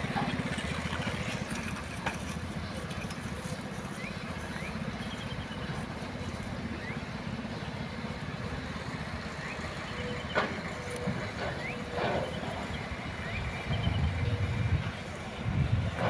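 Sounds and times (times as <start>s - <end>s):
dump truck engine rumbling: 0.0s - 16.0s.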